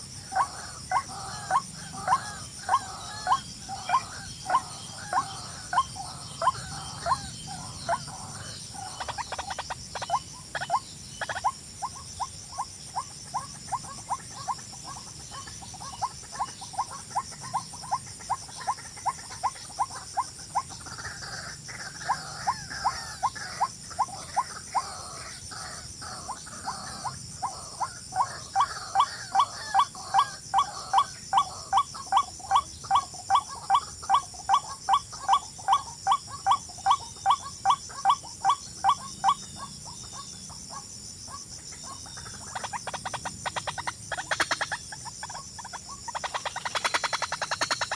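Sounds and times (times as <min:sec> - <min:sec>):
high-pitched insect drone: 0:00.0 - 0:47.9
animal chirping calls: 0:00.3 - 0:47.9.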